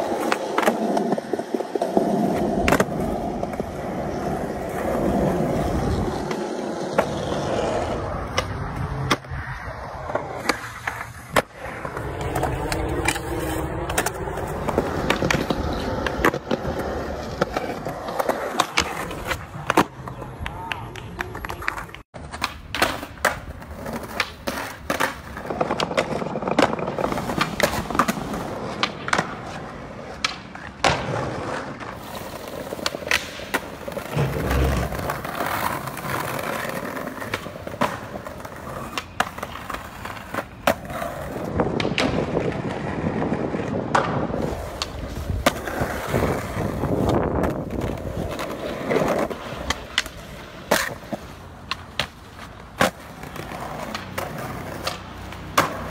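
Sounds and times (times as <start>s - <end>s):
skateboard clacks: 0.0s - 55.9s
skateboard rolling on pavement: 0.0s - 55.9s.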